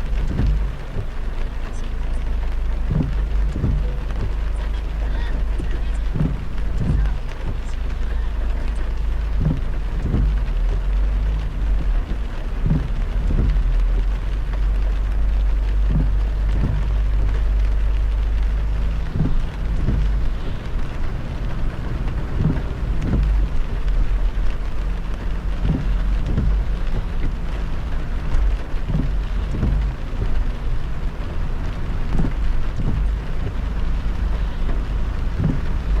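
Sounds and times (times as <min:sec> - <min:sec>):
dull low thumps: 0:00.0 - 0:36.0
heavy rain on a car: 0:00.0 - 0:36.0
low road rumble: 0:00.0 - 0:36.0.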